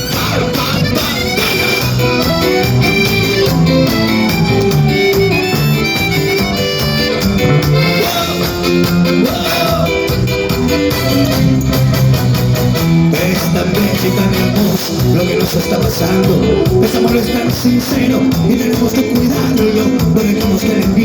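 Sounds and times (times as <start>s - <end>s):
band playing instrumental music: 0.0s - 21.0s.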